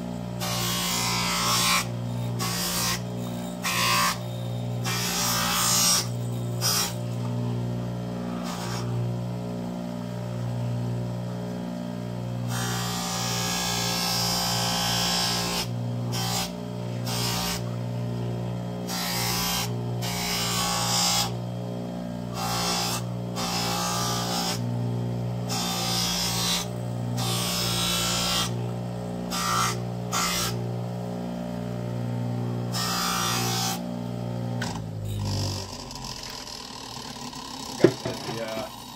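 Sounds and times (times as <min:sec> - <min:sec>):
electric bench buffer humming: 0:00.0 - 0:38.9.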